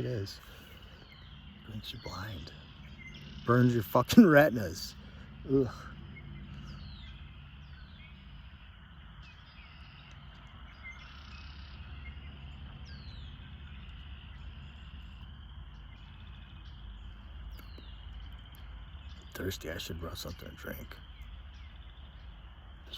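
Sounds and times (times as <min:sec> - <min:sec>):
crickets trilling: 0:00.0 - 0:22.9
falling bird chirps: 0:00.0 - 0:22.9.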